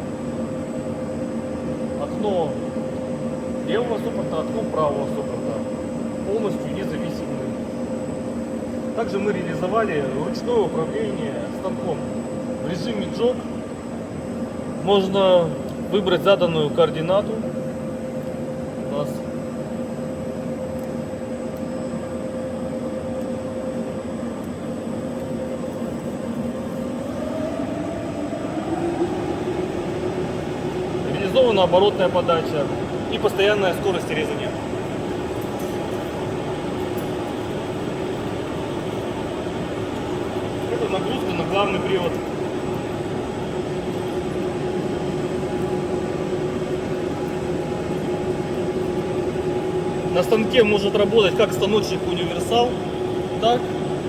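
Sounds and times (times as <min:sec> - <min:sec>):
lathe hum and whine: 0:00.0 - 0:54.0.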